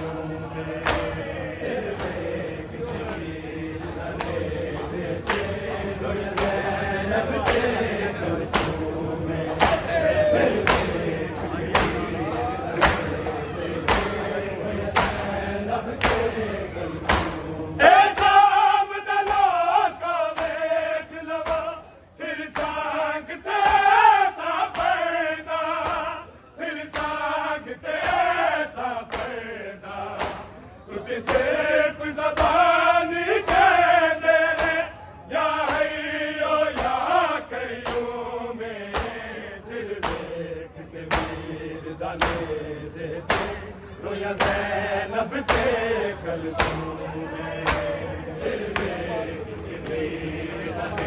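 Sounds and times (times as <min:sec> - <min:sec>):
men chanting in unison: 0:00.0 - 0:51.0.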